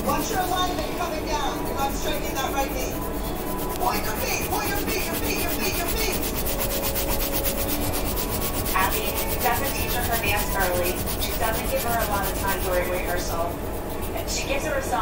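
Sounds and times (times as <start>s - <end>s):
crayon rubbing on paper: 0.0s - 14.9s
faint voices: 0.0s - 15.0s.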